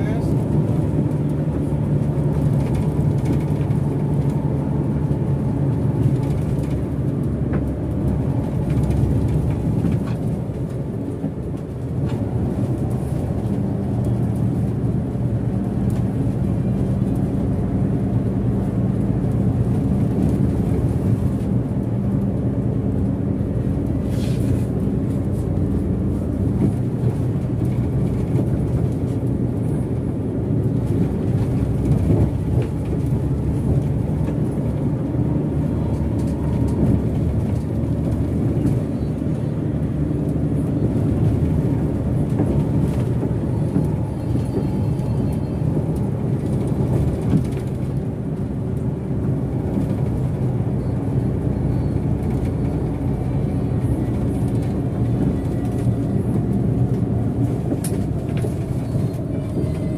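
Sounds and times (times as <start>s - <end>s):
diesel bus engine running: 0.0s - 59.9s
tyre and road noise: 0.0s - 59.9s.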